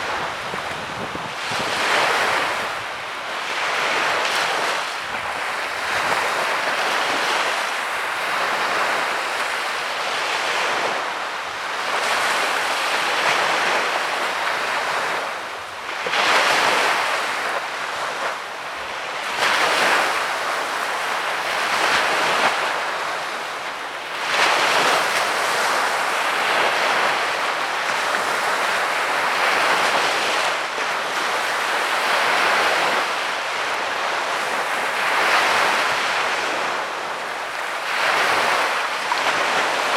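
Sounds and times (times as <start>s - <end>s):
waves breaking on sandy beach: 0.0s - 39.9s
wind on microphone: 0.0s - 39.9s.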